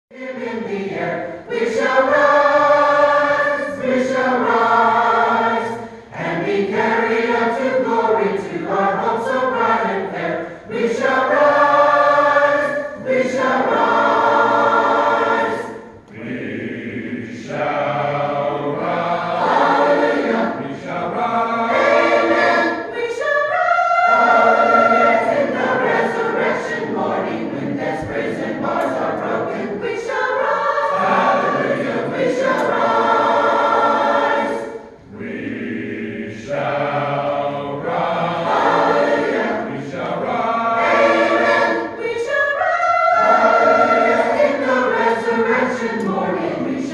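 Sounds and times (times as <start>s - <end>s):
choir singing a hymn: 0.1s - 46.9s.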